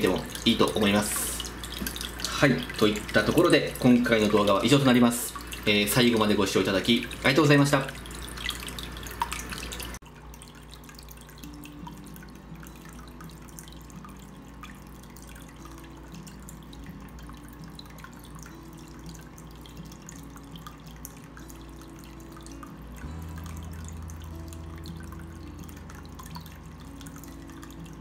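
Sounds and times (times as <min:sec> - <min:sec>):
water trickling and splashing into bowl: 0:00.0 - 0:28.0.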